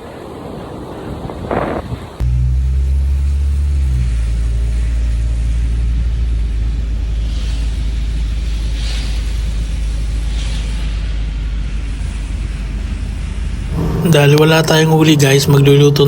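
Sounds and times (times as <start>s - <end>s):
vehicle engine rumbling: 2.2s - 16.0s.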